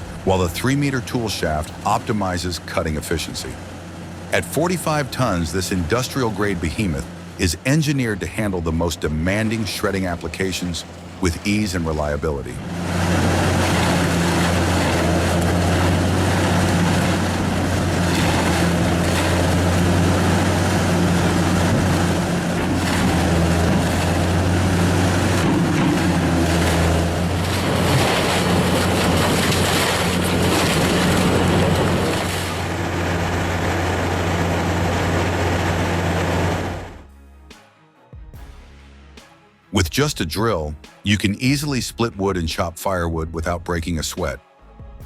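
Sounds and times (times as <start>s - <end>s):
industrial shredder shredding: 0.0s - 37.0s
diesel engine drone: 0.0s - 37.5s.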